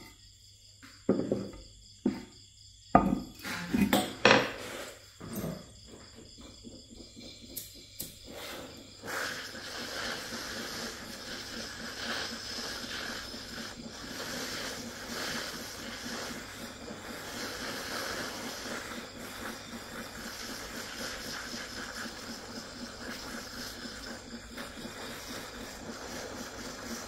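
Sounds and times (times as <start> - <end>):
gas torch flame hissing: 1.1 - 5.2, 5.8 - 27.0.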